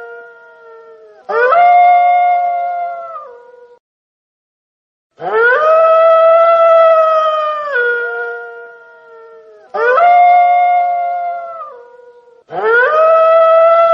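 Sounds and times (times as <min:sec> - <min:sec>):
wolves howling: 0:00.0 - 0:03.8, 0:05.2 - 0:13.9.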